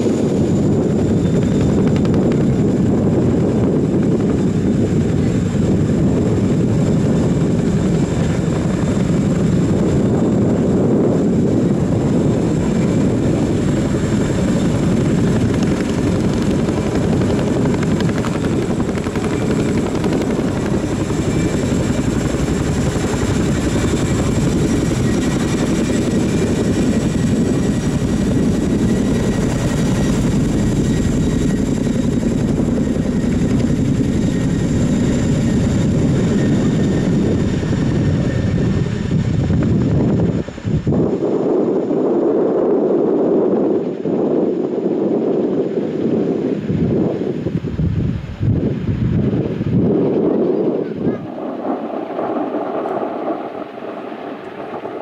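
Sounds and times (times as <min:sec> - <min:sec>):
helicopter rotors and engines: 0:00.0 - 0:55.0.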